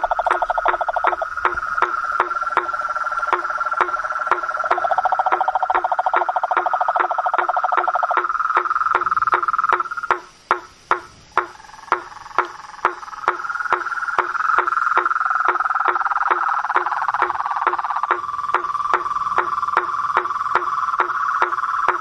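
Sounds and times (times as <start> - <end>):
frog knocking call: 0.0 - 22.0
frog pulsed trill: 0.0 - 22.0.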